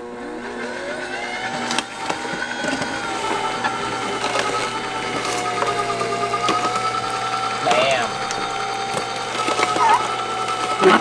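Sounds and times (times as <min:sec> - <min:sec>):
juicer motor whine: 0:00.0 - 0:11.0
apples cracking and crunching: 0:01.6 - 0:11.0.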